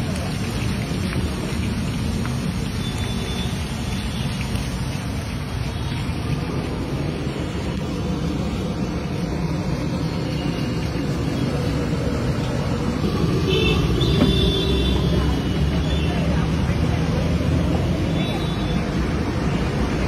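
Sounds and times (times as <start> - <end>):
banana slices frying in oil: 0.0 - 20.0
road traffic rumble: 0.0 - 20.0.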